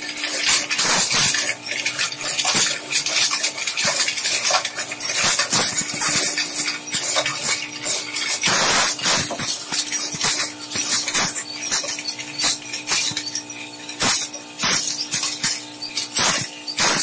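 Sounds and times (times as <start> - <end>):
machine hum: 0.0 - 17.0
shredder crushing metal: 0.0 - 17.0.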